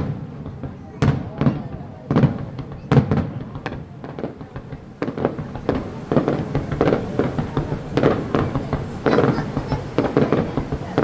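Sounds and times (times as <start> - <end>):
fireworks crackling reports: 0.0 - 11.0
fireworks loud bangs: 0.0 - 11.0.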